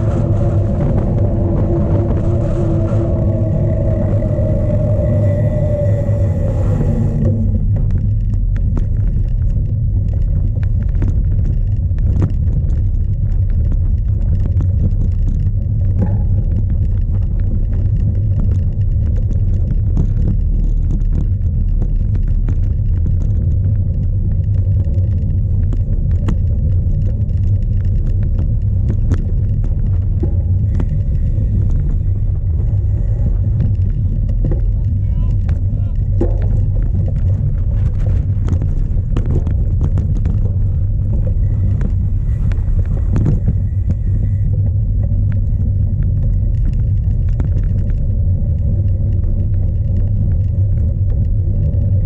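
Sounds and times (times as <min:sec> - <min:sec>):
bike clicks and rattles: 0:00.0 - 0:52.0
wind buffeting microphone: 0:00.0 - 0:52.0.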